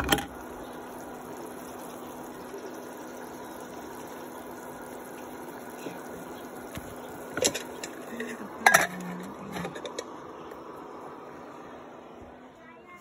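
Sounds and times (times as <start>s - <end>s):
soup boiling in a pot: 0.0s - 12.4s
faint steady hum: 0.0s - 13.0s.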